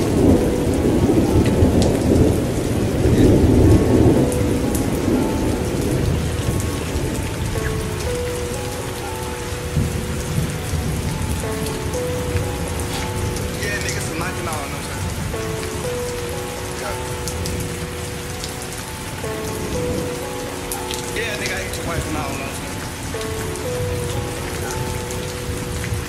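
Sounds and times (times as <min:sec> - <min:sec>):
heavy rain falling: 0:00.0 - 0:26.0
thunder rumbling: 0:00.0 - 0:26.0.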